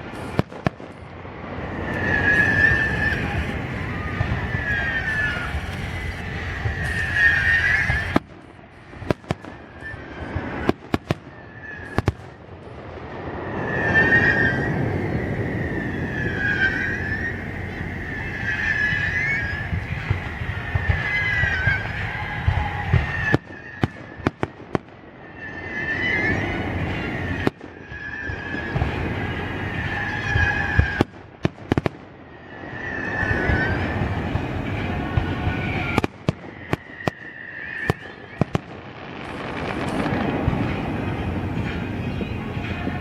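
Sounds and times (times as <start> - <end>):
continuous rumble: 0.0 - 43.0
fireworks bangs and crackling: 0.0 - 43.0
high wavering whistles: 1.6 - 8.3, 8.9 - 12.5, 13.1 - 24.4, 25.1 - 31.1, 32.2 - 43.0.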